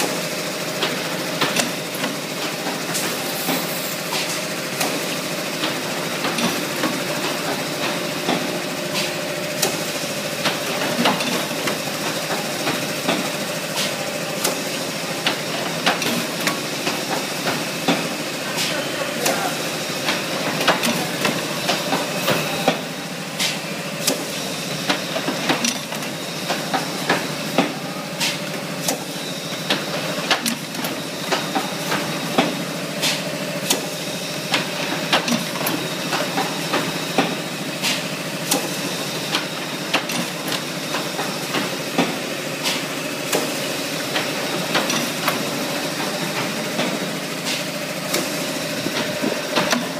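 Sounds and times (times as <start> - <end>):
machine hum and hiss: 0.0 - 49.9.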